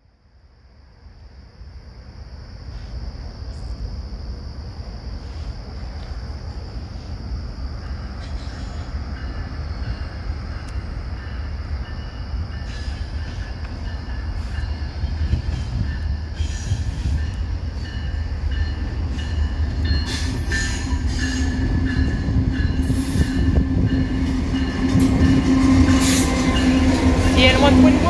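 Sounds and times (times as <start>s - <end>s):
freight train rumble: 0.0s - 28.0s.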